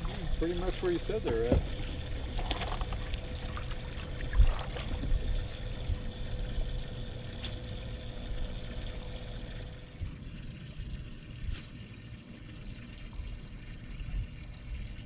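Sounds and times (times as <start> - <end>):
faint hum: 0.0 - 15.0
water trickling and splashing: 0.0 - 15.0.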